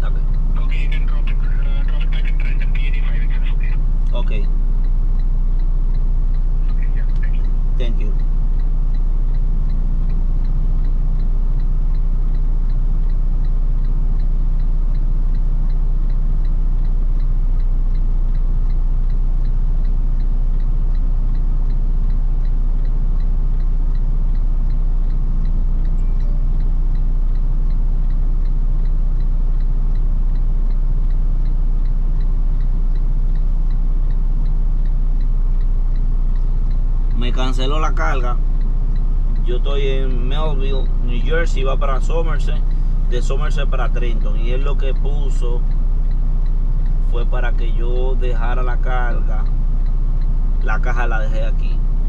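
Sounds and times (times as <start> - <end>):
diesel truck engine idling: 0.0 - 52.0
faint regular ticking: 0.0 - 52.0.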